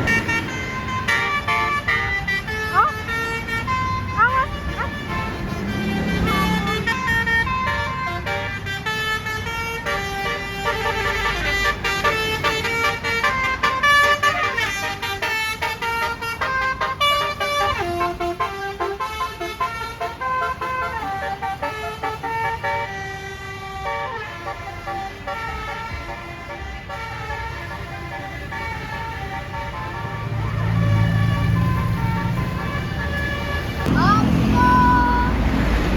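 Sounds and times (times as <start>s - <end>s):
bus air horn melody: 0.0s - 35.9s.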